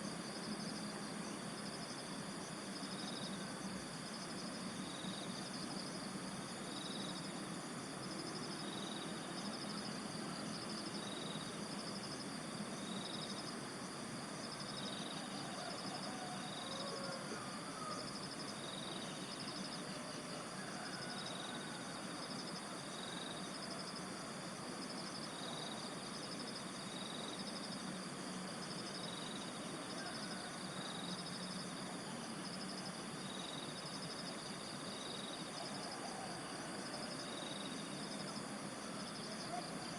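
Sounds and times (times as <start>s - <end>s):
background hiss: 0.0s - 39.9s
insects trilling: 0.0s - 39.9s.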